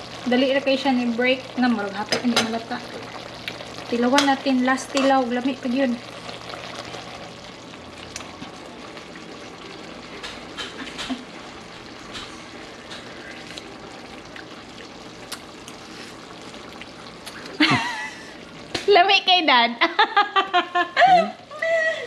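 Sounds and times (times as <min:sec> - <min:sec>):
stew bubbling in a pot: 0:00.0 - 0:19.8.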